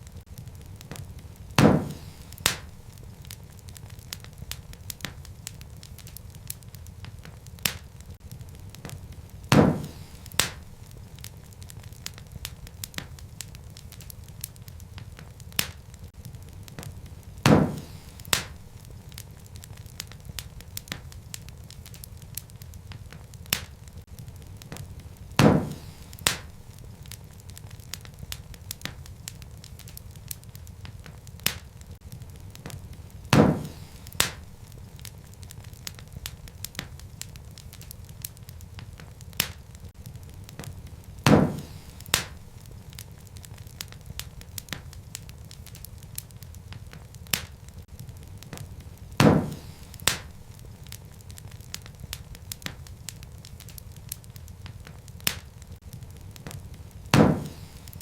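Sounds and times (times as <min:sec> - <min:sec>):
loud fire pops: 0:00.0 - 0:58.0
wood fire crackling: 0:00.0 - 0:58.0.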